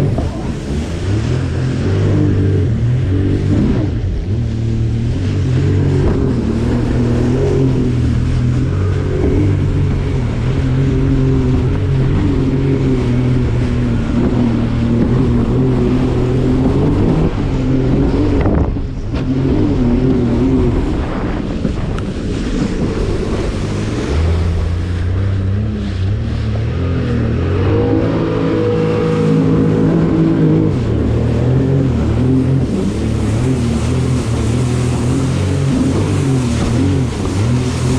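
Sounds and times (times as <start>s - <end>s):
jet ski engine running: 0.0s - 37.9s.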